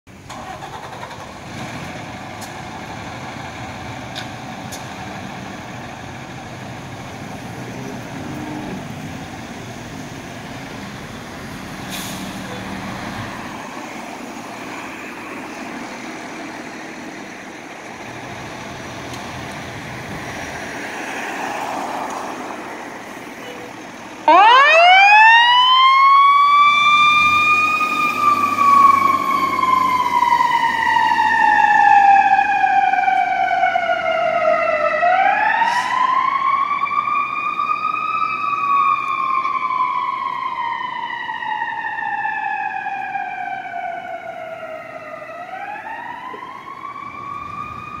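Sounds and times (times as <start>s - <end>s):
fire truck siren wailing: 0.1s - 48.0s.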